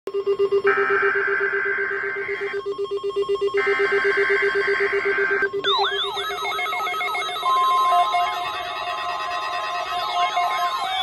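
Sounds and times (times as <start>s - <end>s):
fast low beeping: 0.1s - 11.0s
steady alarm tone: 0.1s - 11.0s
whooping siren alarm: 0.1s - 11.0s
buzzing digital header bursts: 0.2s - 11.0s.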